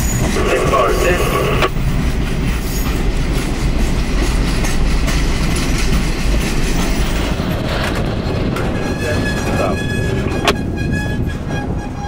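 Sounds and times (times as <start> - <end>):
freight train rumbling: 0.0 - 12.0
wheels clicking over rail joints: 1.6 - 12.0.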